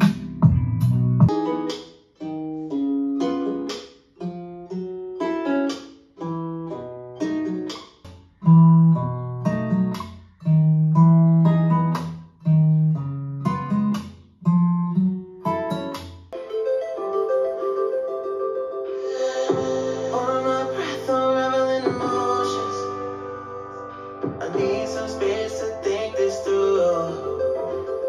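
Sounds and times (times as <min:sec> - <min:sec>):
plucked guitar music with a beat: 0:00.0 - 0:28.0.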